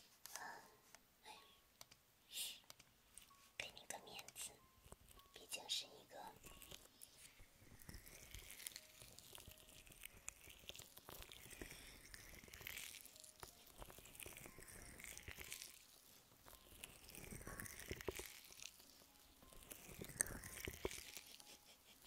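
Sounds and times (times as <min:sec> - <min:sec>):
small crackling clicks: 0:01.8 - 0:02.0, 0:02.6 - 0:05.6, 0:06.3 - 0:22.0.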